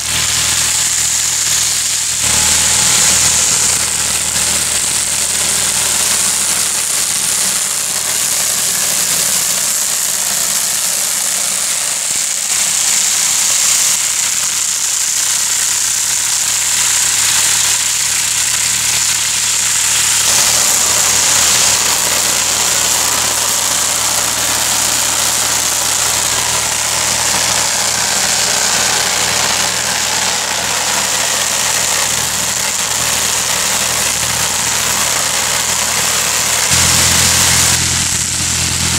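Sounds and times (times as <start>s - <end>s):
tractor engine running: 0.0s - 12.4s, 16.4s - 38.9s
rotary weeder spinning through grass: 0.0s - 38.9s.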